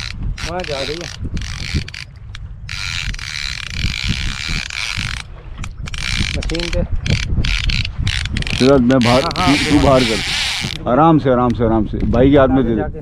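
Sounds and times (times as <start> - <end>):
fishing reel ratchet whirring: 0.0 - 10.9
wind buffeting microphone: 0.0 - 13.0.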